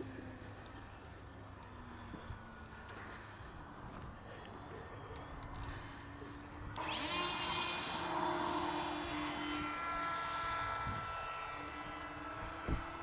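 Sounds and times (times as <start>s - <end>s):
model aeroplane motor whining: 0.0s - 13.0s.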